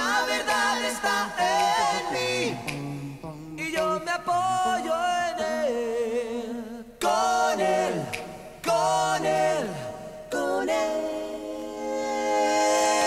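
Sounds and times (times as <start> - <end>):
a cappella voices singing chords: 0.0 - 13.0.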